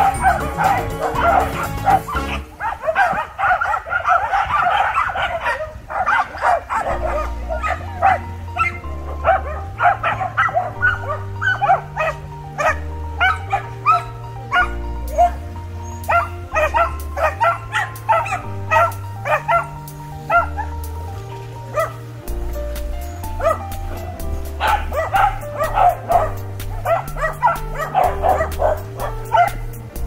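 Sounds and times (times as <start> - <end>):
background music with low bass: 0.0 - 2.7, 6.4 - 30.0
dogs barking excitedly: 0.0 - 22.1, 22.8 - 30.0.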